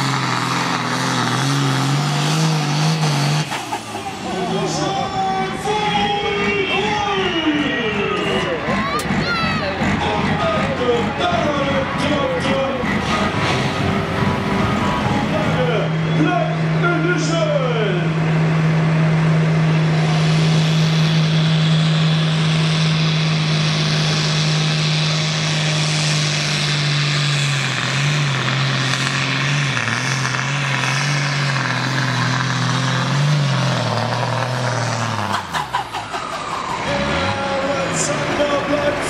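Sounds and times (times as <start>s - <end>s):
tractor engine running flat out: 0.0s - 39.0s.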